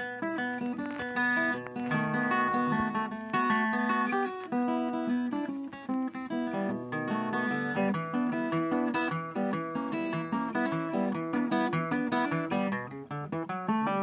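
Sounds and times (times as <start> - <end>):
plucked guitar tune: 0.0 - 14.0.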